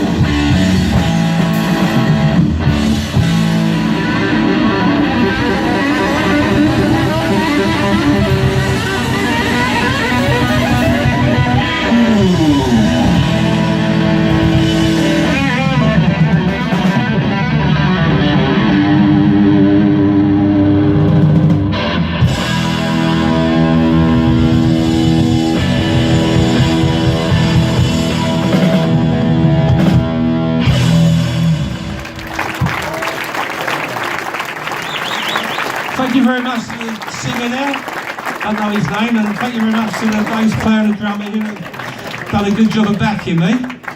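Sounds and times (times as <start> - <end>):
bass guitar: 0.0 - 43.9
drums: 0.0 - 43.9
electric guitar rock lead: 0.0 - 43.9.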